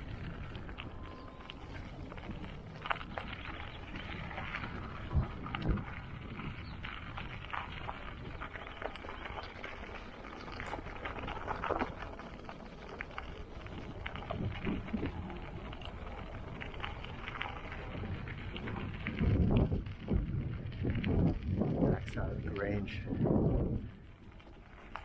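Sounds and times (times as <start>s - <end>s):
bicycle clicks and rattles: 0.0s - 25.0s
wind rumble on microphone: 0.0s - 25.0s.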